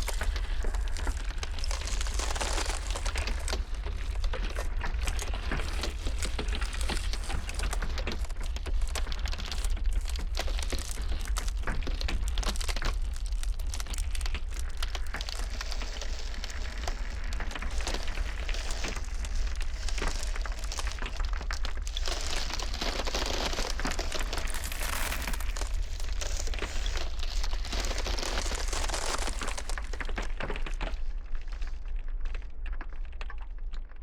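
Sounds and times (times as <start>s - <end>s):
ice cracking: 0.0s - 33.9s.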